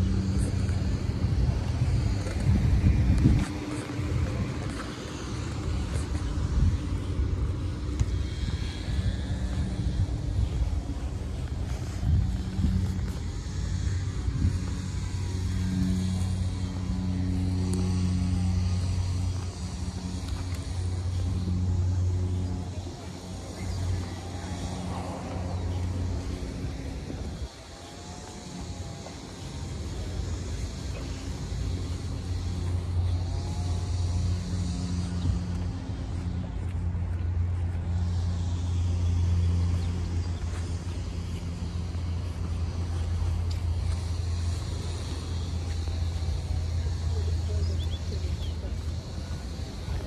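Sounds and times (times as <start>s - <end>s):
outdoor background noise: 0.0s - 50.0s
vehicle engine hum: 0.0s - 50.0s.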